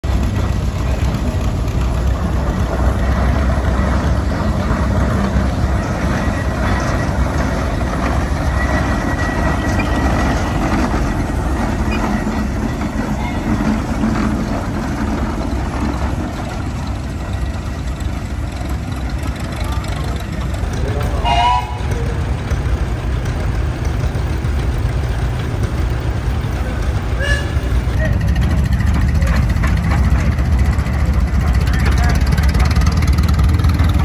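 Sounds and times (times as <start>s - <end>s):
steam traction engine rumbling: 0.0s - 34.0s.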